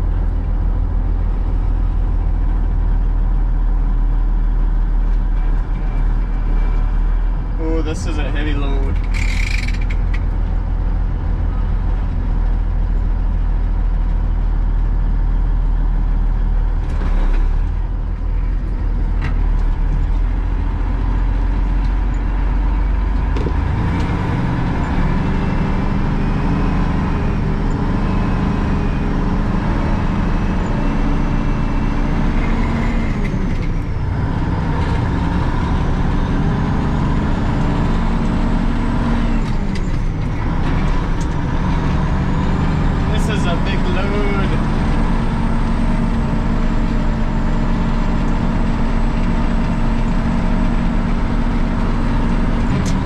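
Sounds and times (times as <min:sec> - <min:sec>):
truck engine running under load: 0:00.0 - 0:53.0.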